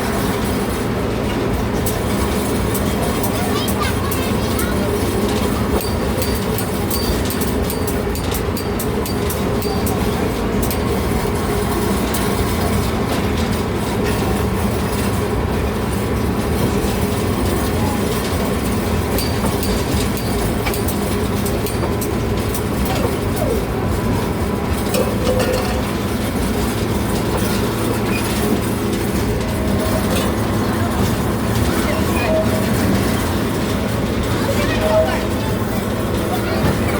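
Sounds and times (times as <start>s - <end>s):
train running noise: 0.0s - 36.9s
wheel clicks on track: 1.8s - 36.9s.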